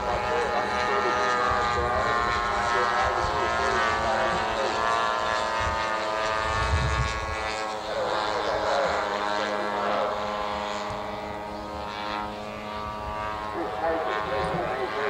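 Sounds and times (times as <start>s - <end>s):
model airplane engine droning: 0.0s - 15.0s.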